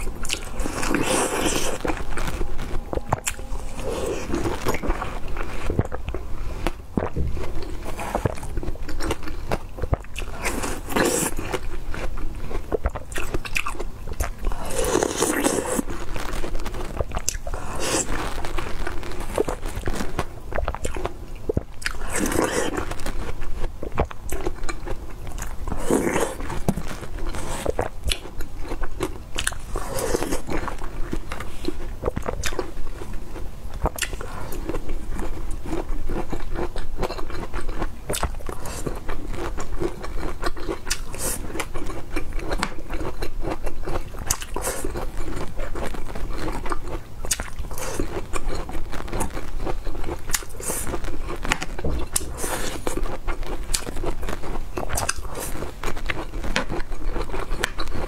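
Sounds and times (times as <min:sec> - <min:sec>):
person chewing soft food: 0:00.0 - 0:58.0.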